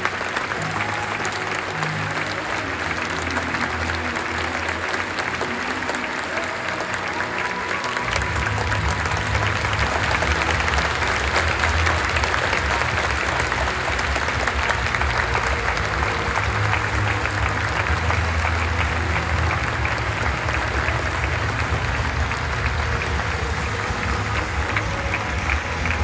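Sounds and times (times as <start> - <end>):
music playing: 0.0 - 26.0
stadium crowd applauding: 0.0 - 26.0.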